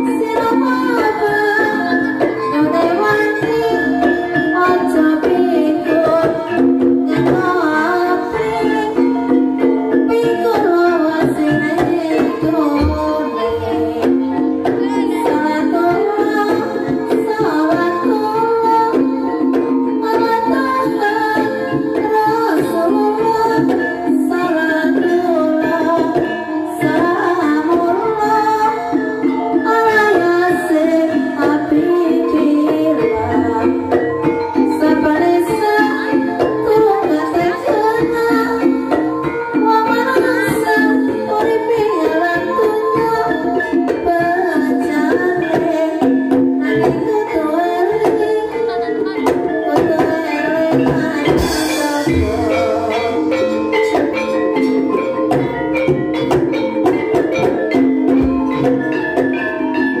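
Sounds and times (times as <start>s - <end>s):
person singing: 0.0s - 29.0s, 29.9s - 55.7s
hand drums beating: 0.0s - 60.0s
keyboard and gamelan-style melody: 0.0s - 60.0s.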